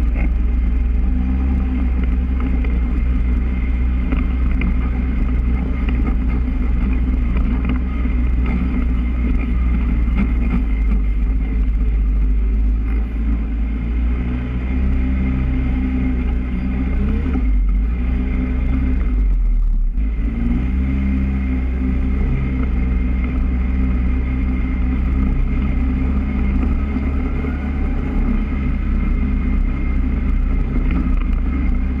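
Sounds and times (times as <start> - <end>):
quad bike engine rumbling: 0.0 - 32.0.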